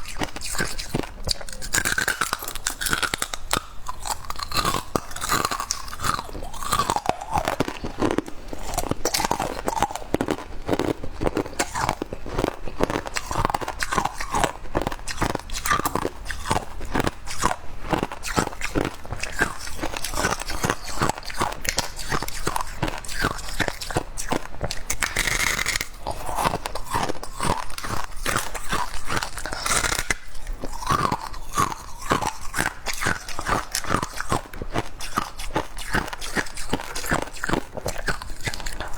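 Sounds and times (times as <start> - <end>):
frost being bitten and chewed: 0.0 - 38.9.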